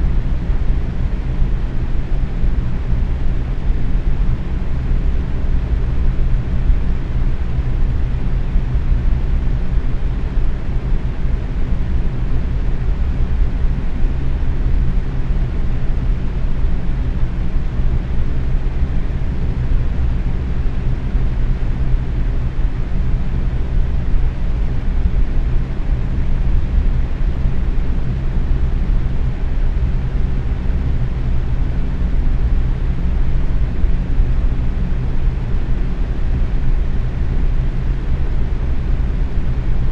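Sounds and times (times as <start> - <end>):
box fan running: 0.0 - 39.9.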